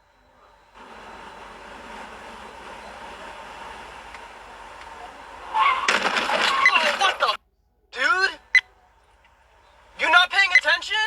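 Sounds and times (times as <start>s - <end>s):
vehicle running noise: 0.0s - 7.4s, 8.0s - 11.0s.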